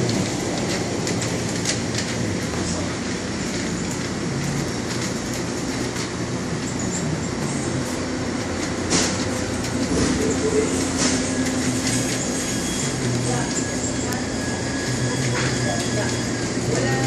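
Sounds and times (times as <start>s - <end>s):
grocery store rumble: 0.0s - 17.0s.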